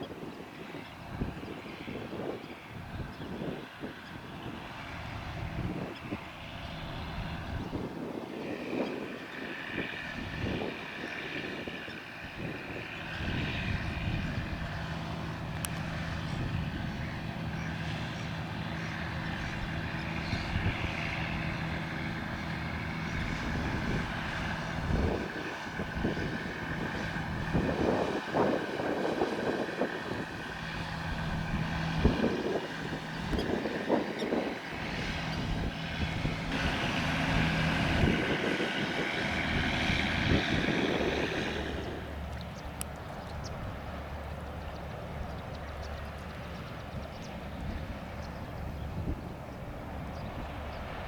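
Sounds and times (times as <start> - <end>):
boat engine humming: 0.0 - 51.0
wind gusting on microphone: 0.0 - 51.0.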